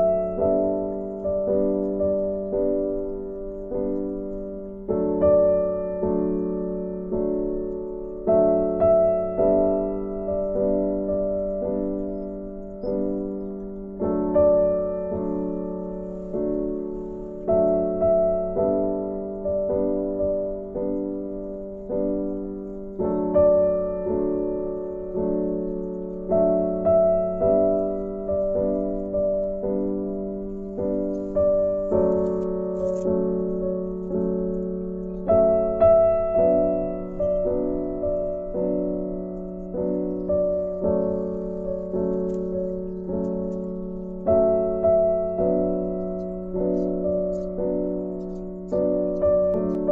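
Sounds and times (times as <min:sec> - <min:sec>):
slow soft piano: 0:00.0 - 0:49.9.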